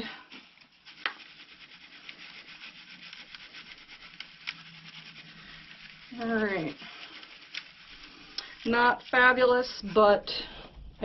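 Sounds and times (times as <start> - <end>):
grit rustling over wire mesh: 0.0 - 10.9.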